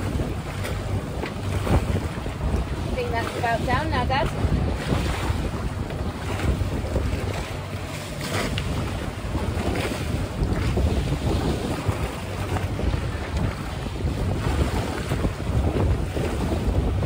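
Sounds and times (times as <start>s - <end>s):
sea water rushing along hull: 0.0s - 17.0s
wind buffeting microphone: 0.0s - 17.0s.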